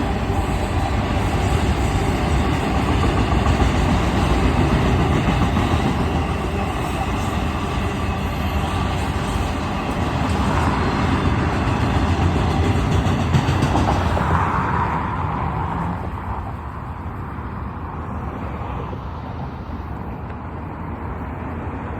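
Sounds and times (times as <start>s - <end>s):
train cars rolling on rails: 0.0s - 21.9s.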